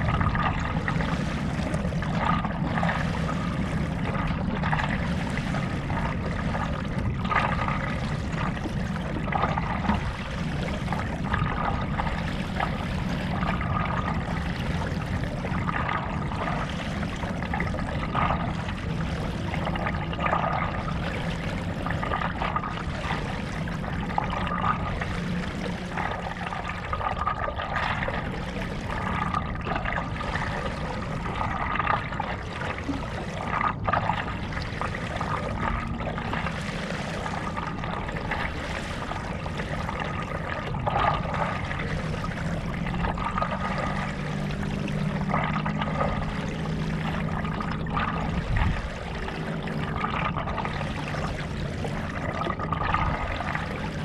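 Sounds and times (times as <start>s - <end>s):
low steady hum: 0.0s - 54.0s
paddle splashing water: 0.0s - 54.0s.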